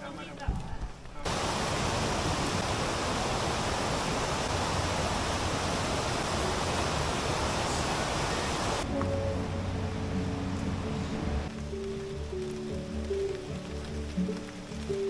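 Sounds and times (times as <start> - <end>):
waterfall rushing: 1.2 - 15.0.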